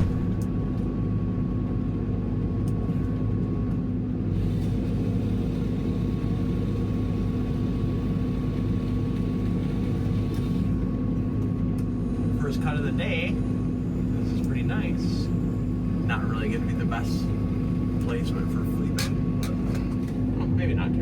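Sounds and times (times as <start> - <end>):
diesel engine humming: 0.0 - 21.0.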